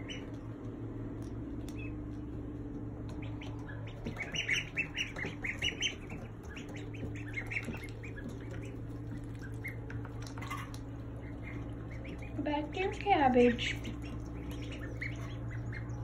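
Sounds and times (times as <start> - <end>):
ducklings peeping: 0.0 - 16.0
steady low hum: 0.0 - 16.0.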